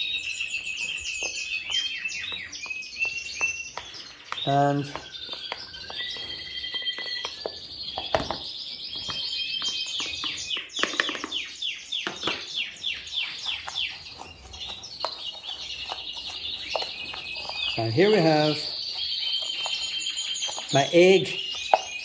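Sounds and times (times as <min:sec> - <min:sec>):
canaries singing: 0:00.0 - 0:22.0.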